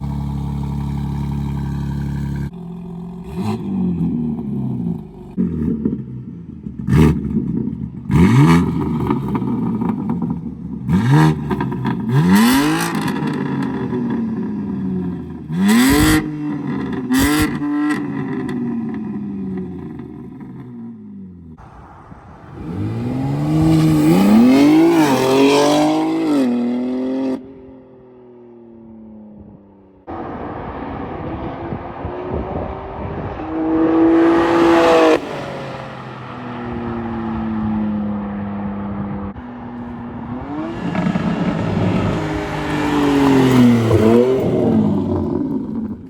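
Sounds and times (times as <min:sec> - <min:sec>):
car engine revving and accelerating: 0:00.0 - 0:20.8, 0:21.6 - 0:27.8, 0:30.0 - 0:46.0.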